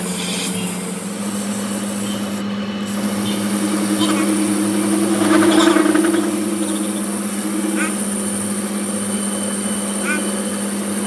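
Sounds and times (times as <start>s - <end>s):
higher hum: 0.7s - 11.0s
machine motor low hum: 0.7s - 11.0s.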